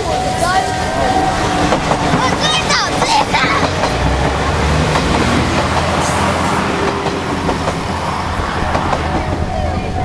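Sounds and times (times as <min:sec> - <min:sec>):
rush of passing train: 0:00.0 - 0:10.0
train engine droning: 0:00.0 - 0:10.0
wheels clicking over rail joints: 0:00.0 - 0:10.0.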